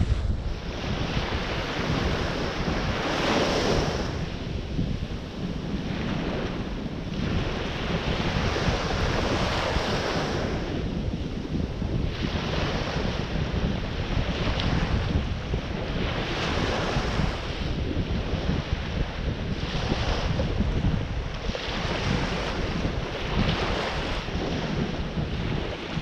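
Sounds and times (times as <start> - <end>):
ocean surf breaking: 0.0 - 26.0
wind rumbling on microphone: 0.0 - 26.0.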